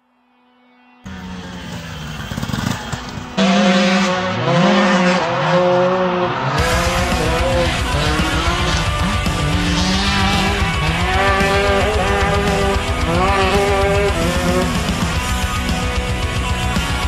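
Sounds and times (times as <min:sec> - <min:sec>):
dirt bike engine revving: 0:01.1 - 0:17.0.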